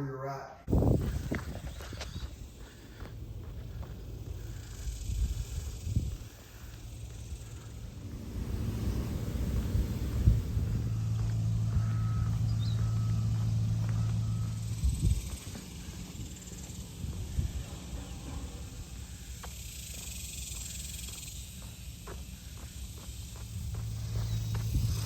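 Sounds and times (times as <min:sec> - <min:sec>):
insects buzzing: 0:00.7 - 0:25.0
low rumble: 0:00.7 - 0:25.0.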